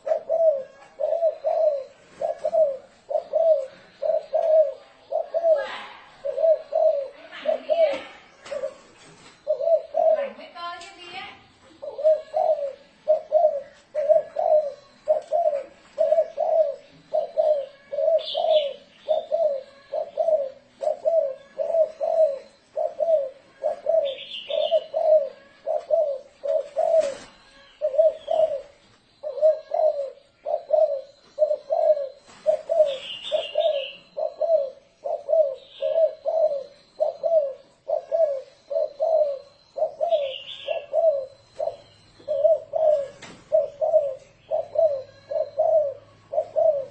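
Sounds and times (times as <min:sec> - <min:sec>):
dove cooing: 0:00.0 - 0:46.9
faint high bird chirps: 0:00.0 - 0:46.9.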